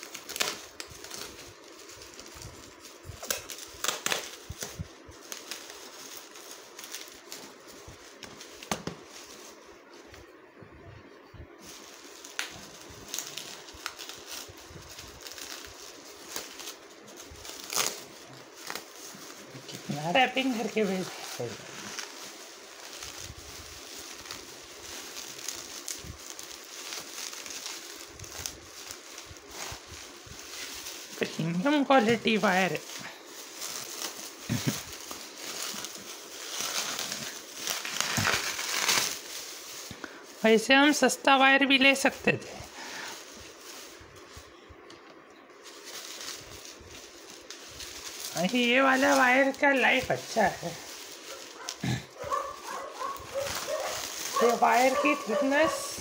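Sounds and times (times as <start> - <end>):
bubble wrap rustling and crackling: 0.0 - 56.0.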